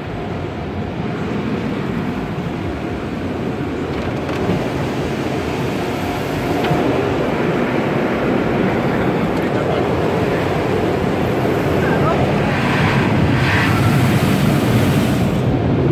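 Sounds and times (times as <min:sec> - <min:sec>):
car wash water spray: 0:01.0 - 0:15.9.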